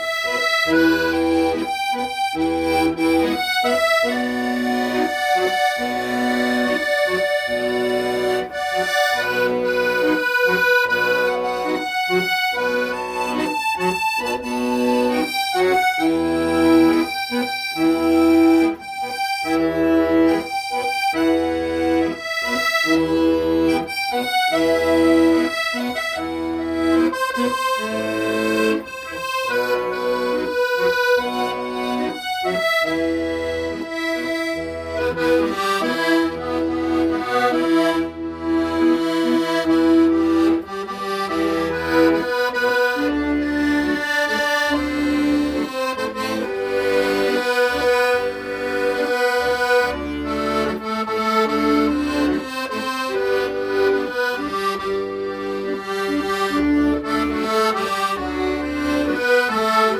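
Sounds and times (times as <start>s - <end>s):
accordion playing slow melody: 0.0s - 59.9s.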